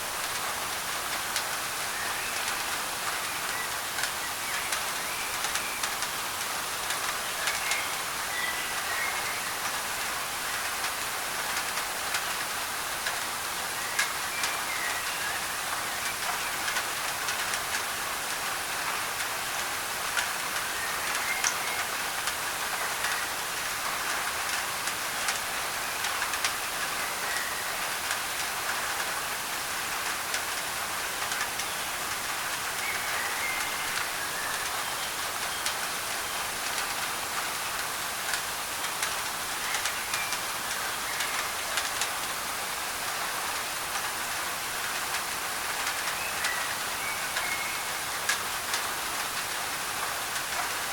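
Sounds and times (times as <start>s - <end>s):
rain on a tin roof: 0.0s - 50.9s.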